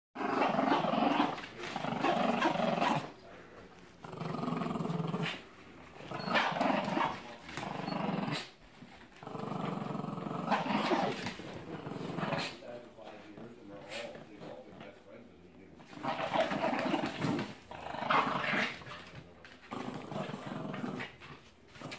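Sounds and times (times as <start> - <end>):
dogs growling in play: 0.2 - 15.0, 15.7 - 21.9.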